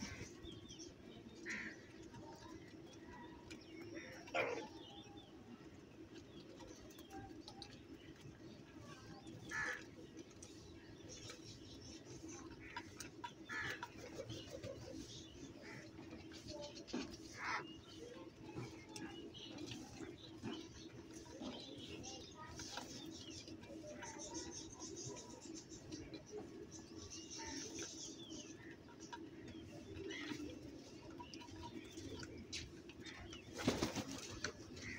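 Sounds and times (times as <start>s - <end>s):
low background murmur: 0.0s - 34.9s.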